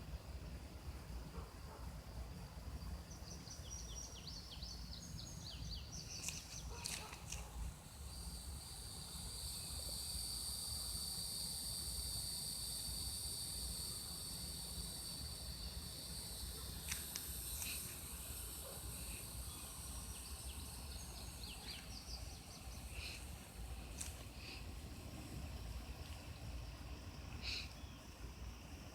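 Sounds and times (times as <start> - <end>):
high-pitched insect chorus: 0.0 - 28.9.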